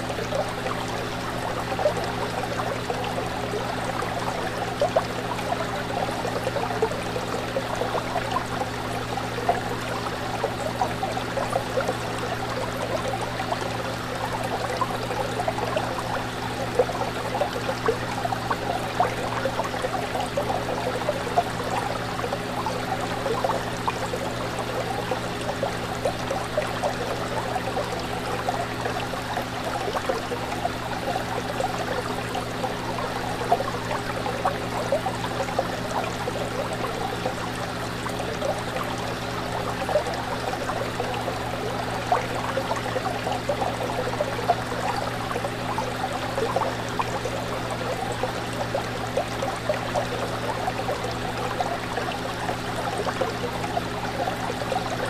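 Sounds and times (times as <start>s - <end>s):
aquarium pump humming: 0.0s - 55.0s
water trickling and splashing: 0.0s - 55.0s.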